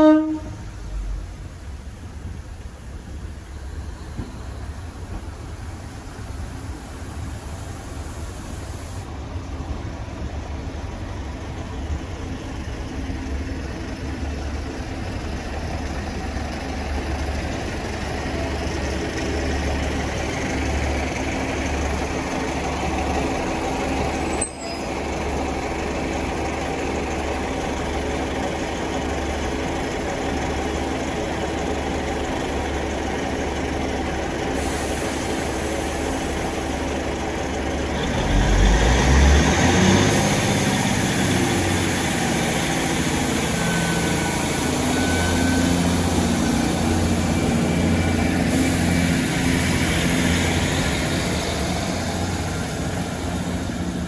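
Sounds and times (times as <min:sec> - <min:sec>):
train diesel engine humming: 0:00.0 - 0:54.0.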